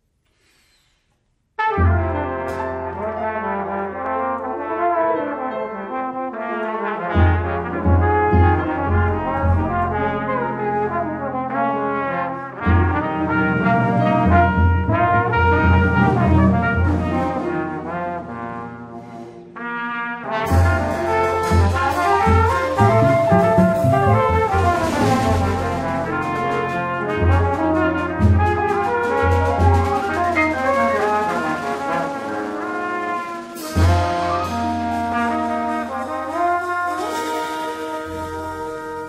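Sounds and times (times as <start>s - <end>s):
jazz quintet playing: 1.6s - 39.0s.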